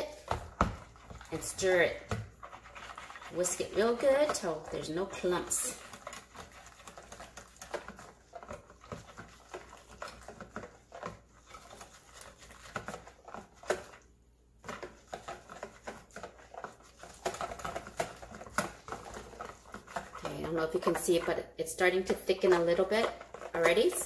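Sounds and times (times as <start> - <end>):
whisk clicking and scraping bowl: 0.0 - 24.0.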